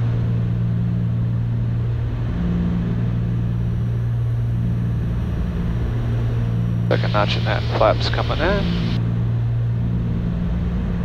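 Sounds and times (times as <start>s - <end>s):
propeller aircraft cabin drone: 0.0s - 11.0s.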